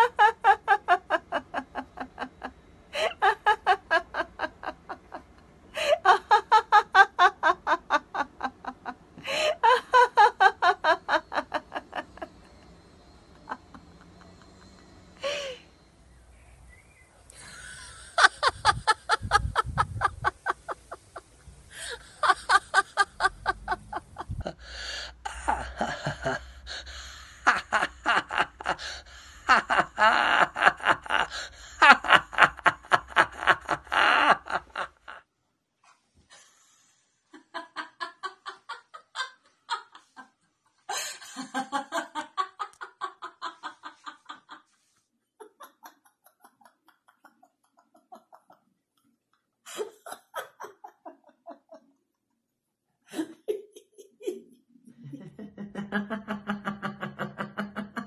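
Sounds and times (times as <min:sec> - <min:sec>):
people laughing rhythmically: 0:00.0 - 0:15.6, 0:17.4 - 0:35.2, 0:37.4 - 0:44.7, 0:45.4 - 0:48.6, 0:49.7 - 0:51.9, 0:55.0 - 0:58.0.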